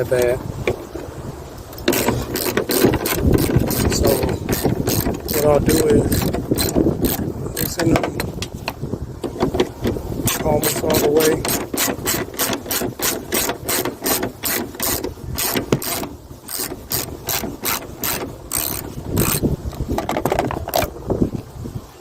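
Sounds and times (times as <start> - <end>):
hand ratchet clicking: 1.8 - 8.4, 9.2 - 20.9.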